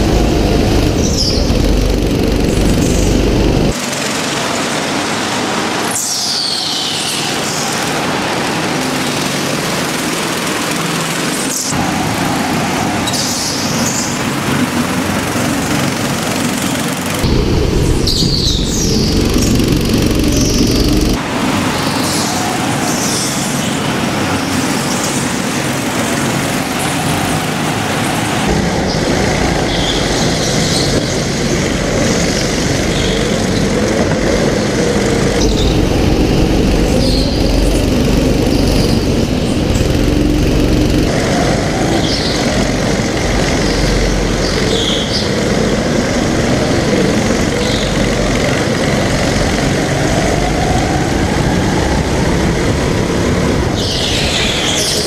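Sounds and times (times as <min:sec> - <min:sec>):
go-kart engines revving: 0:00.0 - 0:55.0.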